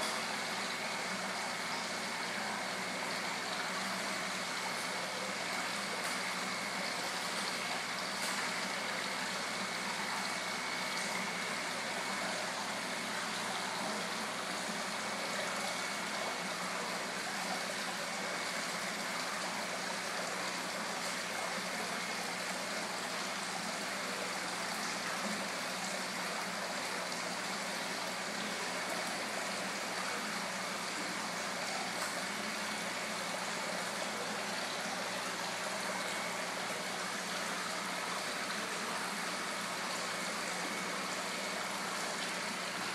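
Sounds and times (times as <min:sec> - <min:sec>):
waterfall pouring into pond: 0:00.0 - 0:42.9.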